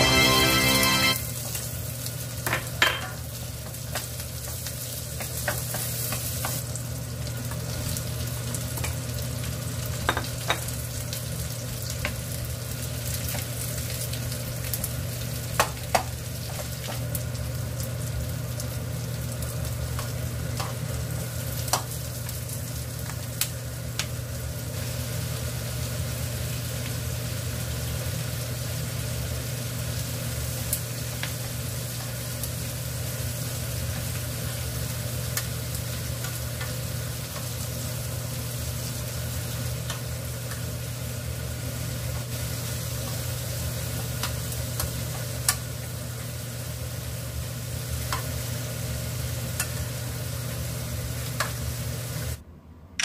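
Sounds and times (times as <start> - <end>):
vegetables sizzling in a pan: 0.0 - 52.4.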